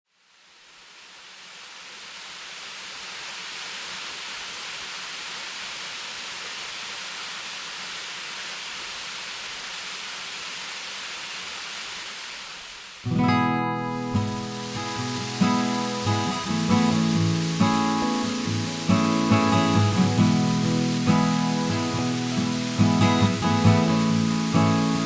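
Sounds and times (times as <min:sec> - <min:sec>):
waterfall rushing water: 0:00.1 - 0:25.0.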